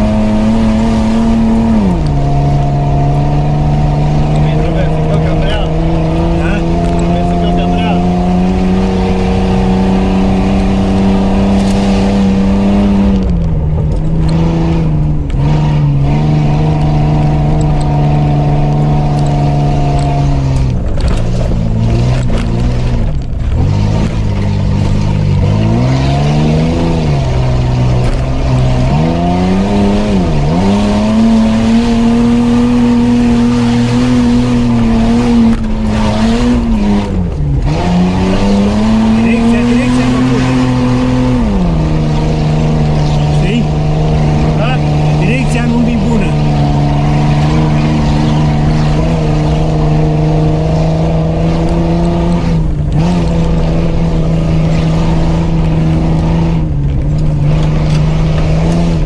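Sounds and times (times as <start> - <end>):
off-road vehicle engine driving hard: 0.0 - 59.0
tyre and road noise: 0.0 - 59.0.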